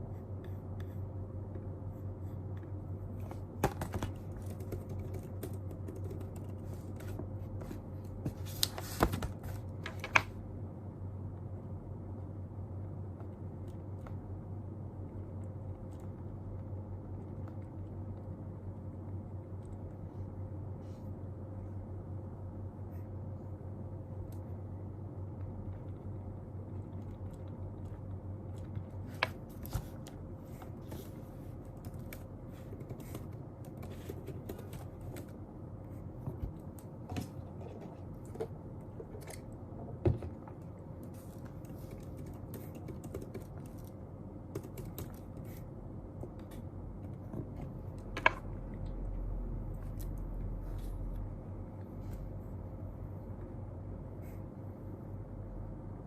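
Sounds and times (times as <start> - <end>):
room hum: 0.0 - 56.0.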